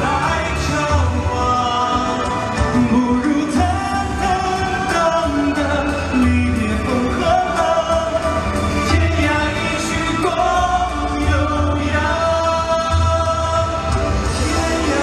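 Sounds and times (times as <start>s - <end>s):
backing music with bass: 0.0s - 15.0s
two men singing: 0.0s - 15.0s.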